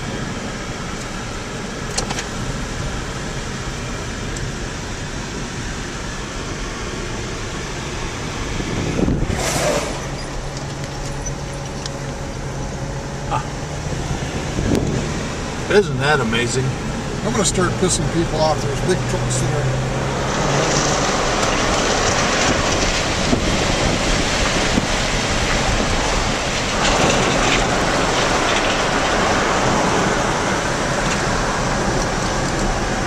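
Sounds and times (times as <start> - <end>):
road and engine noise inside car: 0.0 - 33.0.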